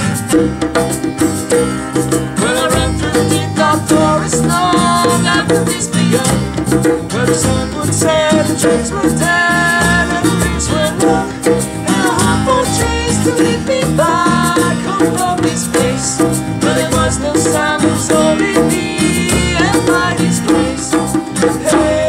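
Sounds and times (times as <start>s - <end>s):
acoustic guitar strumming: 0.0s - 22.0s
electric bass guitar: 0.0s - 22.0s
light quick percussion: 0.0s - 22.0s
group singing: 2.0s - 22.0s.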